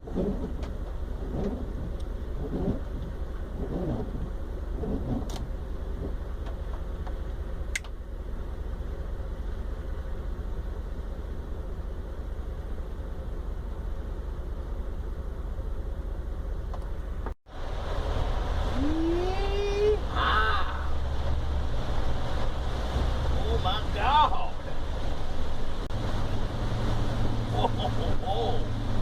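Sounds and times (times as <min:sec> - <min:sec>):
road noise: 0:00.0 - 0:29.0
van engine rumble: 0:00.0 - 0:29.0.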